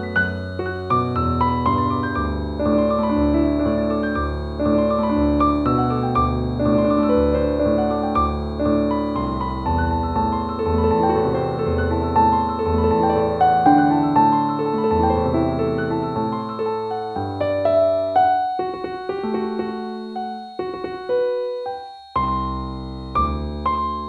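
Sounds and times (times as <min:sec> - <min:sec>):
faint steady high tone: 0:00.0 - 0:24.0
slow solo piano music: 0:00.0 - 0:24.0.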